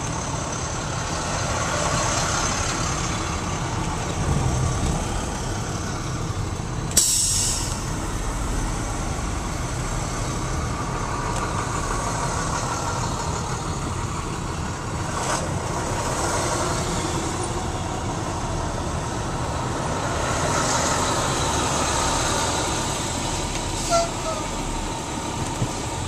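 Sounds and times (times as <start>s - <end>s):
buses idling: 0.0s - 26.0s.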